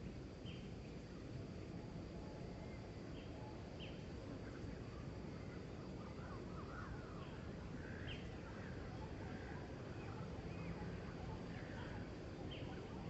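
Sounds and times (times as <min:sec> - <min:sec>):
faint high hum: 0:00.0 - 0:13.0
low background noise: 0:00.0 - 0:13.0.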